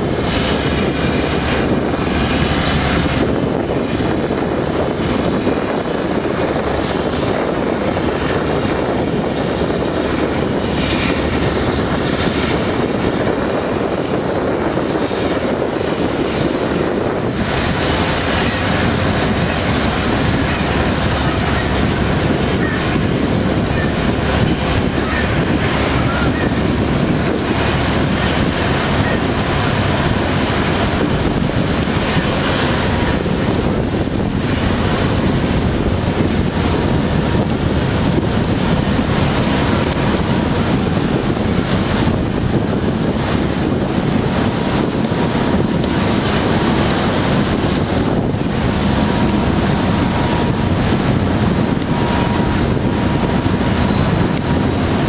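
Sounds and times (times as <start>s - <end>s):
ship engines rumbling: 0.0s - 55.0s
water churning: 0.0s - 55.0s
wind buffeting microphone: 0.0s - 55.0s.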